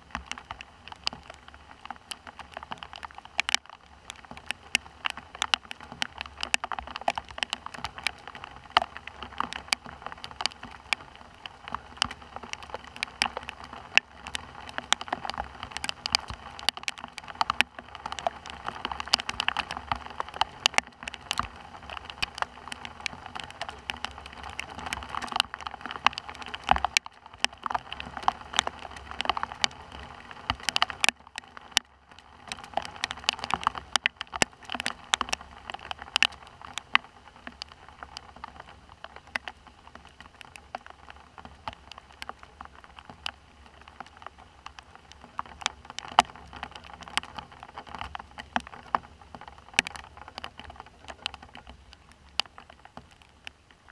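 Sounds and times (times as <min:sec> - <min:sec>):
rain falling: 0:00.0 - 0:53.9
raindrops ticking near microphone: 0:00.0 - 0:53.9.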